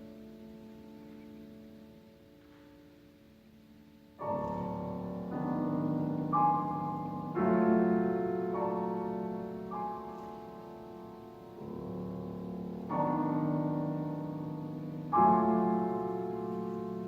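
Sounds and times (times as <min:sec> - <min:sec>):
solo piano chords: 0:00.0 - 0:17.0.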